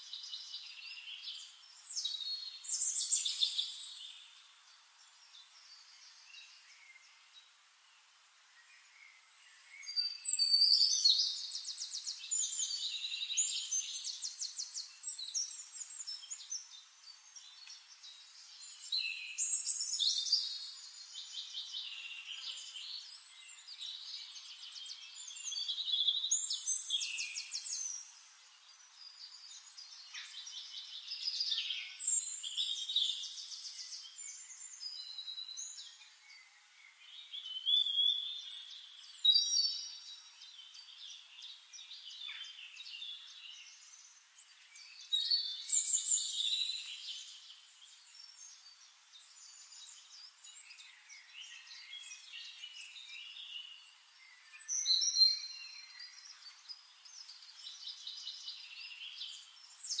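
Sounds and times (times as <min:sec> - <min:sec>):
birdsong chirps and trills: 0:00.0 - 1:00.0.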